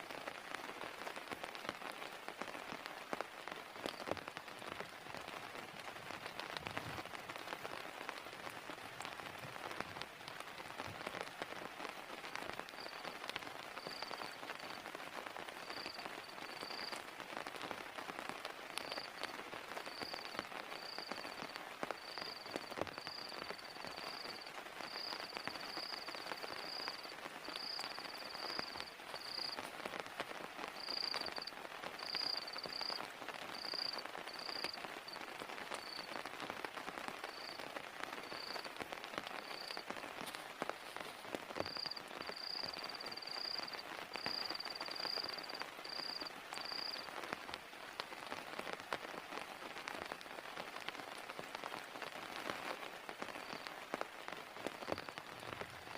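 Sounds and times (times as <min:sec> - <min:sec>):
steady rain falling: 0:00.0 - 0:55.9
taps of single raindrops: 0:00.0 - 0:55.9.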